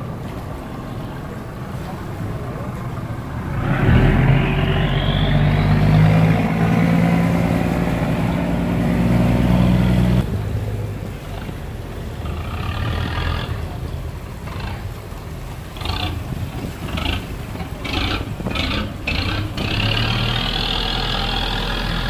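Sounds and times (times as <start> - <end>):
boat engine revving: 0.0 - 22.0
boat engine running: 0.0 - 22.0
propeller churning water: 0.0 - 22.0.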